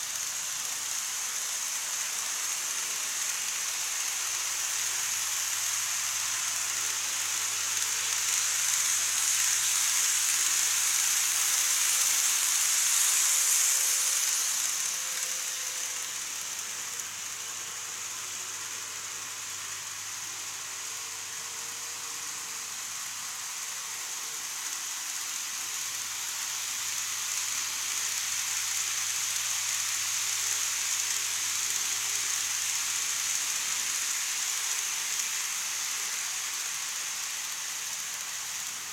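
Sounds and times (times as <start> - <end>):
model trains whirring on track: 0.0 - 38.9.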